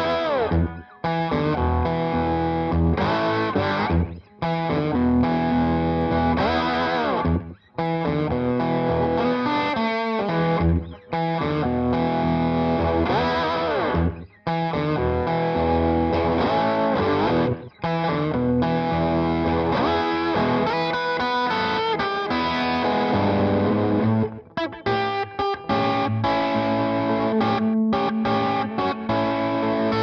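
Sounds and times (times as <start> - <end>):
rock music with distorted guitar: 0.0 - 30.0.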